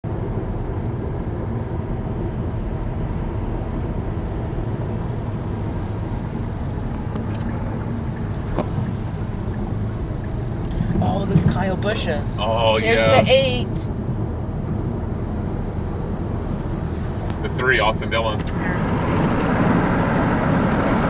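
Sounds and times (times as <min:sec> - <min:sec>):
car driving on highway: 0:00.0 - 0:21.0.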